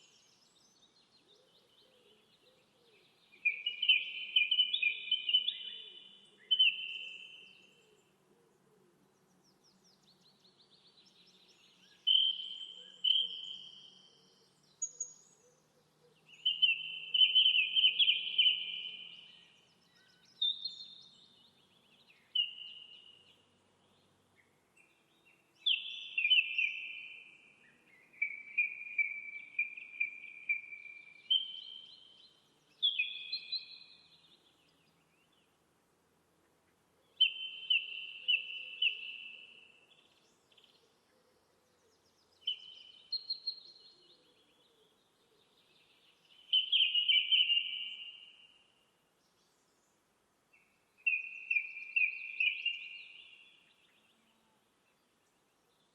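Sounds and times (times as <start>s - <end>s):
bird chirping: 0.0s - 8.2s, 9.0s - 35.6s, 37.1s - 55.9s.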